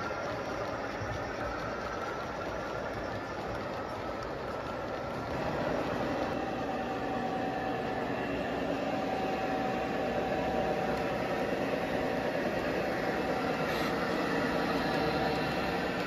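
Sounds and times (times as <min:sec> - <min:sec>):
model trains rumbling: 0:00.0 - 0:16.0.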